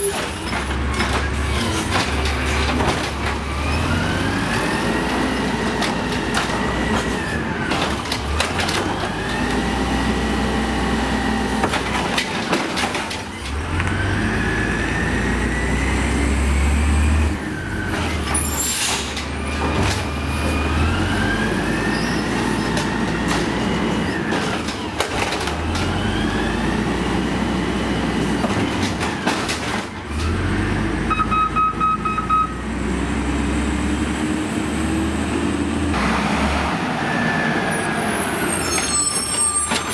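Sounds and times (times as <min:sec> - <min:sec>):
garbage truck engine revving: 0:00.1 - 0:31.1, 0:32.5 - 0:39.9.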